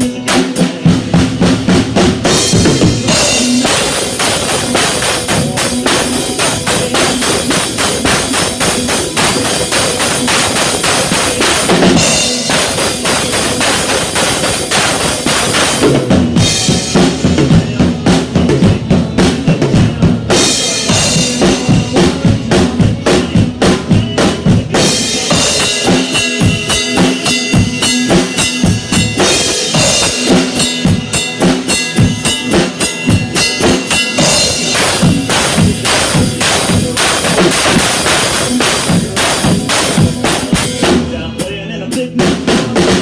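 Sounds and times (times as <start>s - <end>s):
drum kit beat: 0.0s - 43.0s
instrumental band music: 0.0s - 43.0s.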